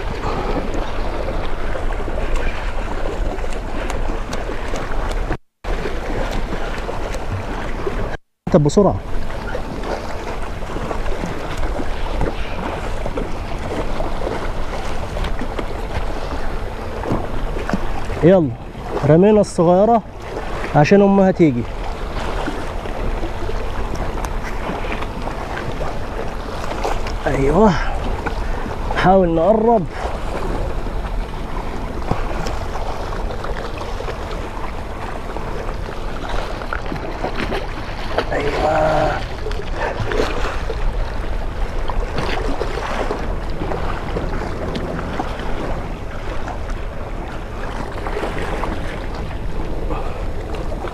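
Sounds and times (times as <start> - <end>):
wind rumbling on microphone: 0.0 - 8.2, 8.9 - 50.9
water lapping against rocks: 0.0 - 50.9.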